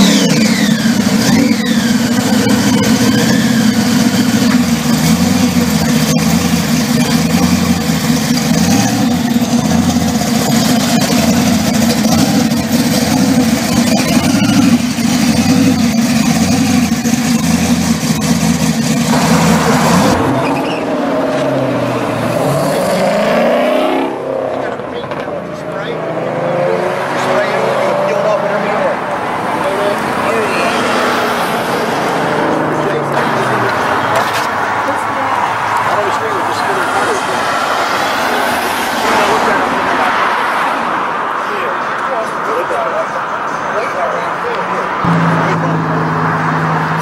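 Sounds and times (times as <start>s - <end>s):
v eight engine idling and revving: 0.0s - 47.0s.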